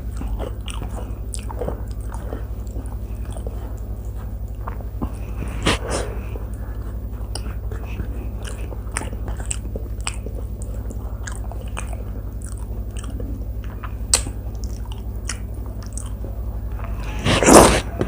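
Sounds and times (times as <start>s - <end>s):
hand mixing food on steel plate: 0.0s - 14.8s
low hum: 0.0s - 18.0s
wet chewing: 0.0s - 18.0s.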